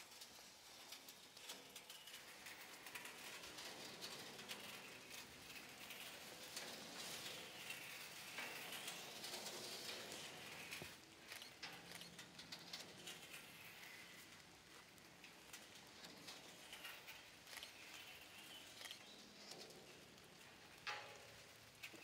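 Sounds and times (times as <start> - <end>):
small clicks: 0.1 - 22.0.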